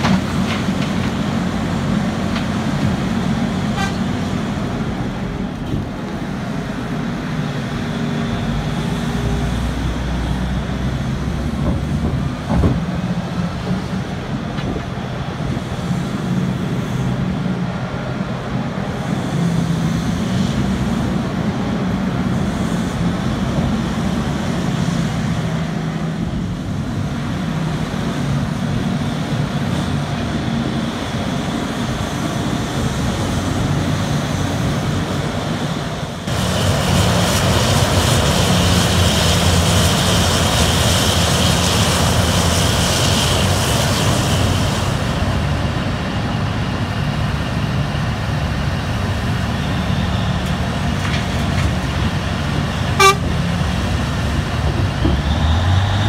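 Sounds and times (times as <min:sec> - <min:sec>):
excavator engine droning: 0:00.0 - 0:56.0.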